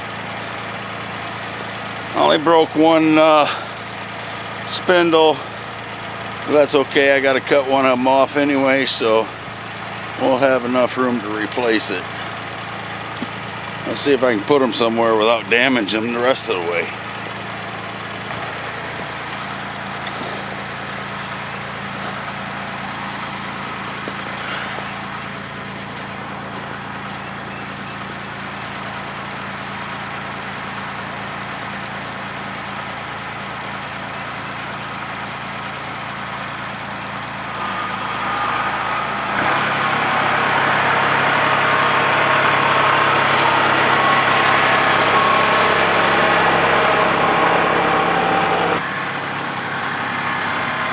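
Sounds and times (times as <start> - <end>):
forklift engine running: 0.0 - 50.9.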